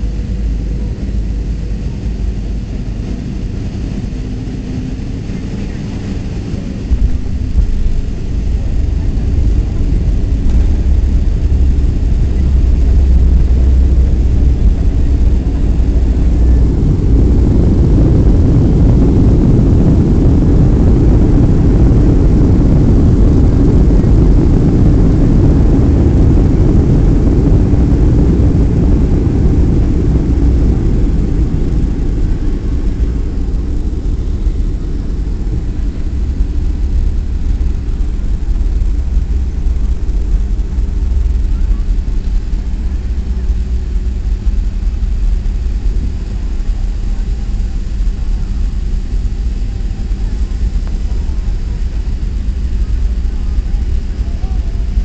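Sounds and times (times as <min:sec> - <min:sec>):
low rumble of jet engines: 0:00.0 - 0:55.0.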